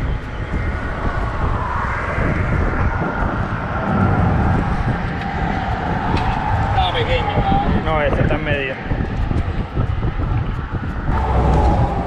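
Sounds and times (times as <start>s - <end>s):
traffic noise: 0.0s - 12.0s
wind rumble on microphone: 0.0s - 12.0s.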